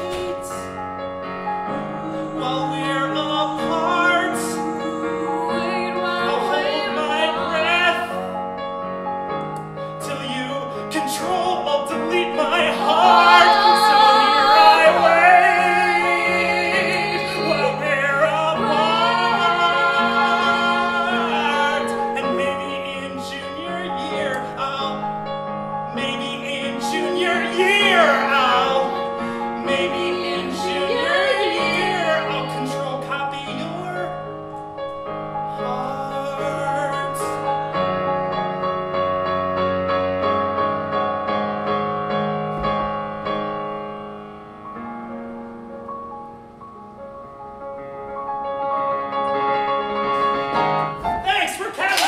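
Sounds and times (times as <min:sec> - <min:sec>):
electronic keyboard chords: 0:00.0 - 0:51.9.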